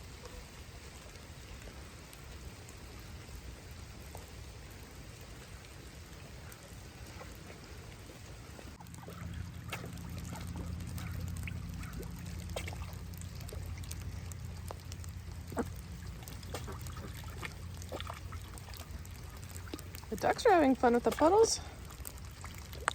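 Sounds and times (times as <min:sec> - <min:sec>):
ducks dabbling in puddles: 0:00.0 - 0:22.9
low steady rumble: 0:00.0 - 0:22.9
meltwater dripping and trickling: 0:00.0 - 0:22.9.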